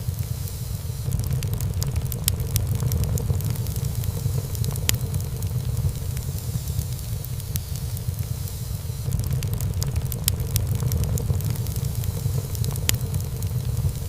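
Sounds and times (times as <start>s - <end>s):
low rumble of flames: 0.0s - 14.0s
wood fire crackling: 0.0s - 14.0s.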